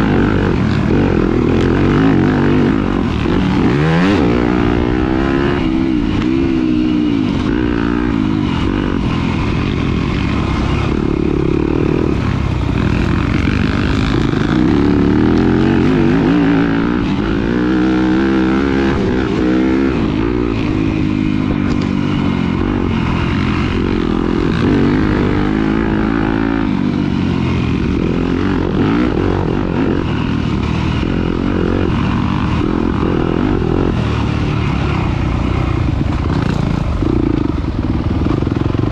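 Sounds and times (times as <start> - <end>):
dirt bike engine racing: 0.0 - 38.9.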